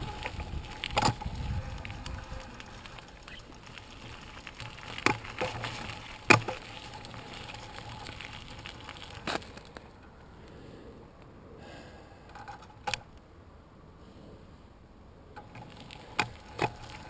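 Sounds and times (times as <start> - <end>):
bike tyre rolling noise: 0.0 - 13.2, 15.3 - 17.0.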